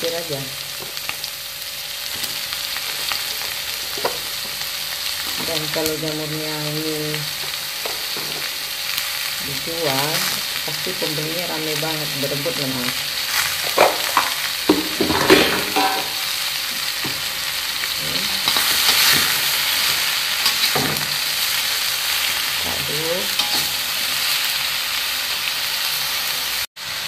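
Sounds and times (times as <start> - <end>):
mushrooms sizzling in oil: 0.0 - 27.0.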